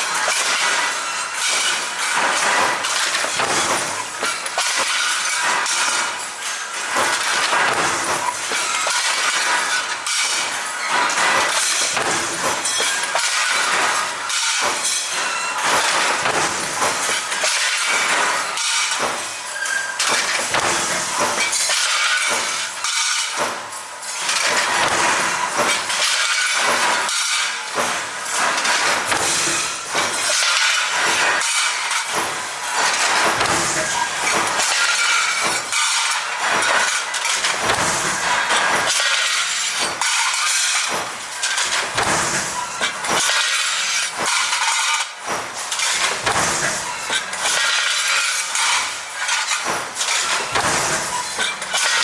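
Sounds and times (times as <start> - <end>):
small metal parts clinking: 0.0 - 52.0.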